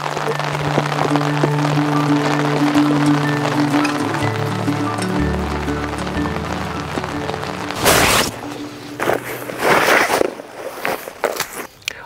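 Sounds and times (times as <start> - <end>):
background music held notes: 0.0 - 10.9.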